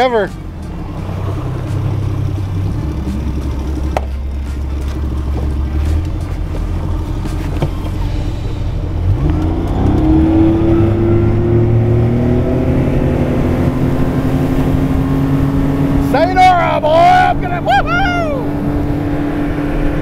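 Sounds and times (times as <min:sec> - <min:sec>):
outboard motor revving: 0:00.0 - 0:20.0.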